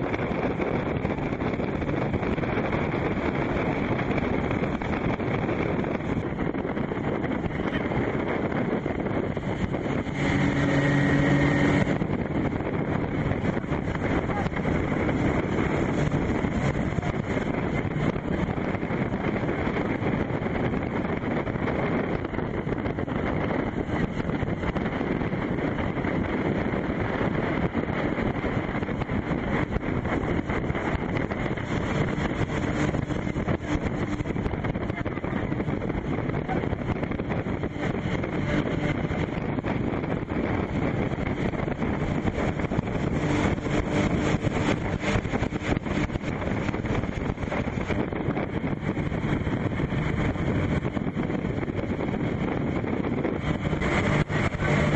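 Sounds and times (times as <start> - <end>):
speedboat motor running: 0.0 - 54.9
wind buffeting microphone: 0.0 - 54.9.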